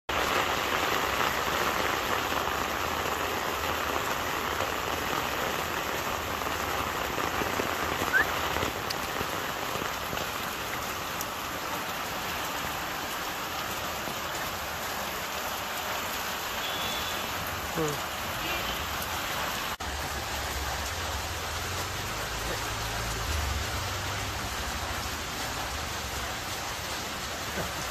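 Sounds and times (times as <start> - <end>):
heavy rain on a wet street: 0.1 - 27.9.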